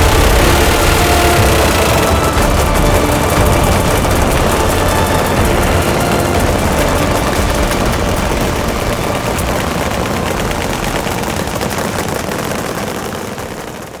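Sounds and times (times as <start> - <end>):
rapid gunfire: 0.0 - 14.0.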